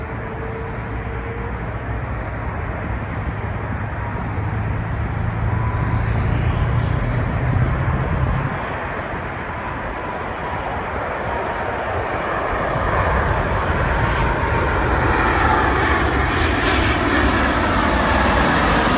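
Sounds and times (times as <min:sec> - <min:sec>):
jet engine rumble: 0:00.0 - 0:18.9.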